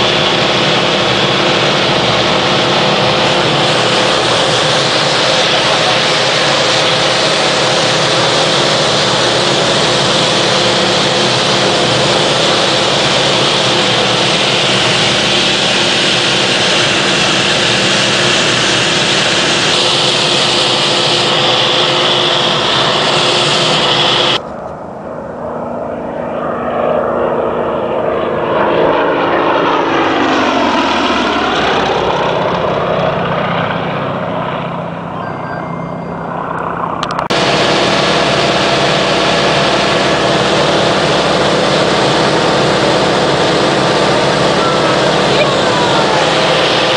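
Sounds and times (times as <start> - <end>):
propeller plane engine drone: 0.0 - 46.9
propeller plane flying past: 0.0 - 46.9.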